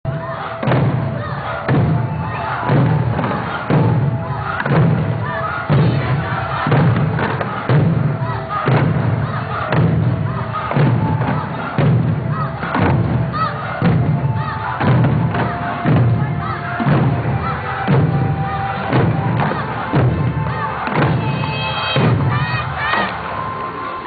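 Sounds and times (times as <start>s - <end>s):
festival music: 0.0s - 24.0s
taiko drums beating: 0.1s - 23.9s.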